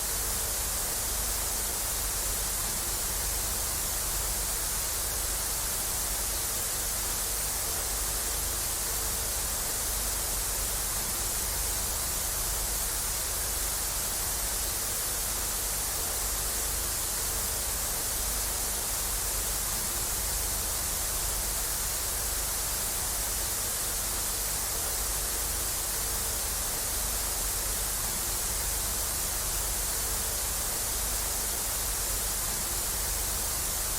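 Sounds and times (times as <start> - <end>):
television static hiss: 0.0 - 33.9.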